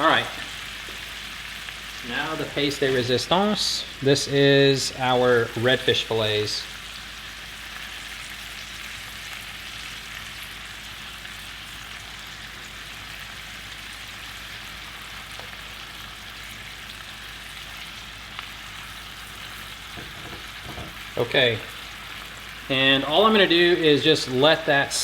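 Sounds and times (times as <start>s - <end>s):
fish fillets sizzling in a pan: 0.0s - 25.0s.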